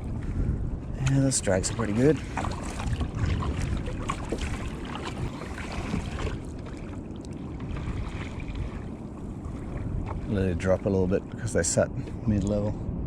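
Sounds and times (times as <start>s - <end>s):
water sloshing against kayak hull: 0.0s - 11.3s
wind on microphone: 0.0s - 13.0s.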